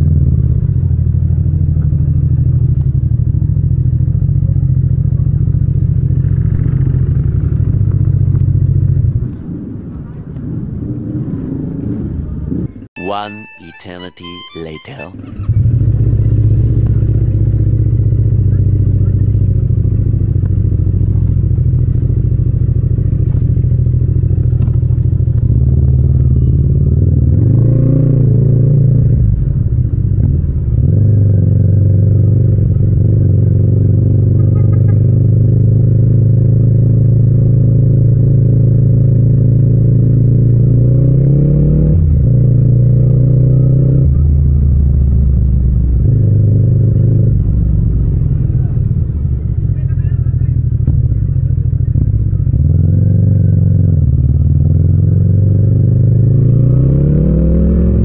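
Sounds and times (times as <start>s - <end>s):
motorcycle engine running: 0.0s - 12.5s, 15.2s - 41.4s, 42.0s - 58.0s.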